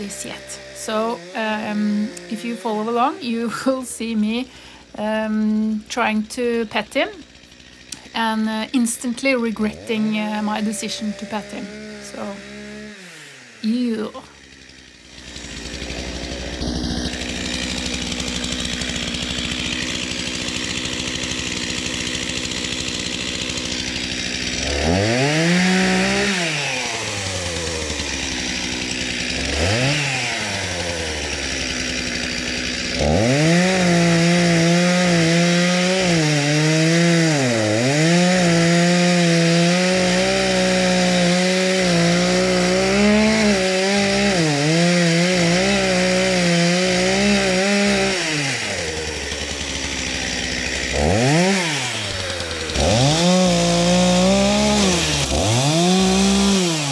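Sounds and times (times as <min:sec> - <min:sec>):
chainsaw cutting tree trunk: 0:00.0 - 0:56.9
chainsaw revving: 0:00.0 - 0:56.9.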